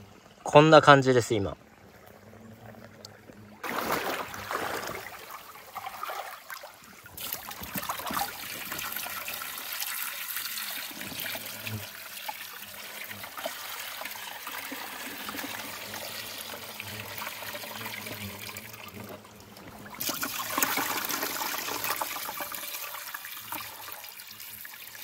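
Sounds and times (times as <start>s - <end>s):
water pouring and splashing: 1.9s - 25.0s.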